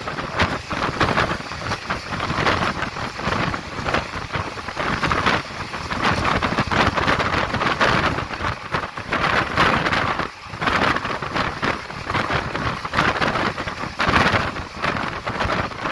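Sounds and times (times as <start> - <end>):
moving passenger train: 0.0 - 15.9
wind on microphone: 0.0 - 15.9.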